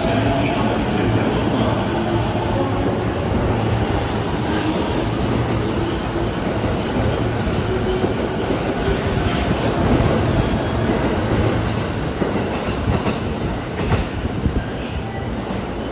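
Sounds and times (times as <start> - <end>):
train cars rumbling: 0.0 - 15.9.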